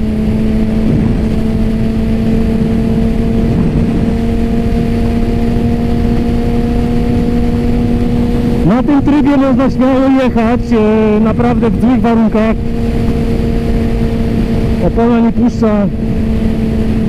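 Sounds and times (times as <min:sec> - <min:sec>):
heavy wind rush: 0:00.0 - 0:17.0
motorcycle engine cruising: 0:00.0 - 0:17.0.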